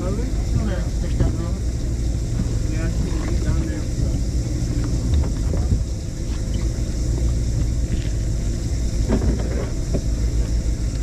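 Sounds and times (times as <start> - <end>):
boat engines rumbling: 0.0 - 11.0.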